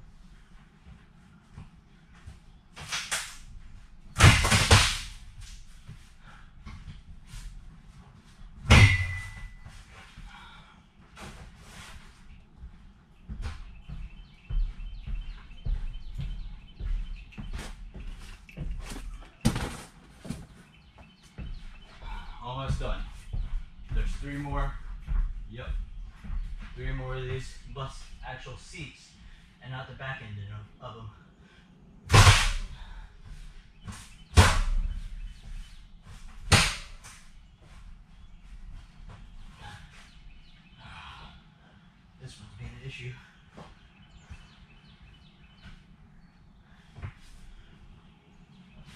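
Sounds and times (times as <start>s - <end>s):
footsteps inside a bus: 0.0s - 4.2s, 5.1s - 29.6s, 32.8s - 48.9s.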